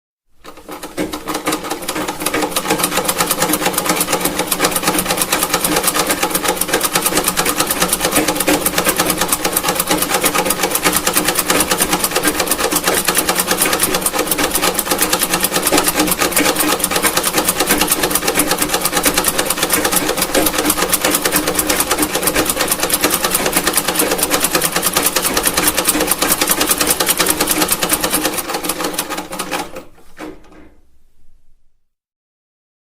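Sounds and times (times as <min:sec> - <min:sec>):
sewing machine clattering: 0:00.4 - 0:30.9.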